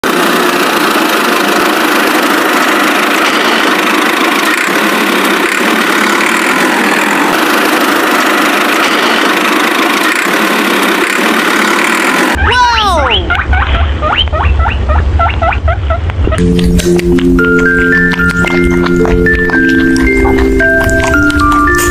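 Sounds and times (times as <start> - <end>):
engine running steadily: 0.0 - 15.2, 16.0 - 21.9.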